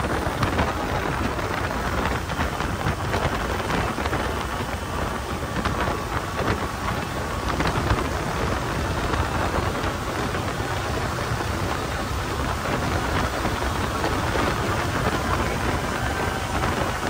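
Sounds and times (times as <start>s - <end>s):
boat engine: 0.0s - 17.0s
water rushing past boat: 0.0s - 17.0s
wind rushing: 0.0s - 17.0s.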